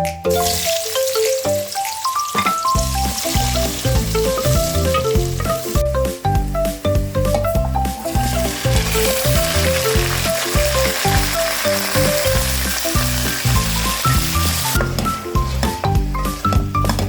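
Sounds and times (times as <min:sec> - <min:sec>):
background music: 0:00.0 - 0:17.0
food sizzling in oil: 0:00.3 - 0:14.8.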